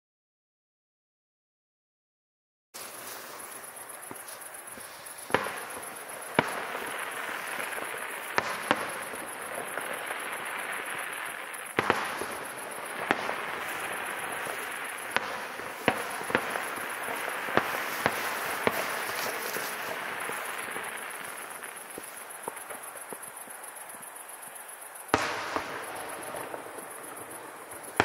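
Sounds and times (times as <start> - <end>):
firework bangs: 2.8 - 28.0
steady hiss: 2.8 - 28.0.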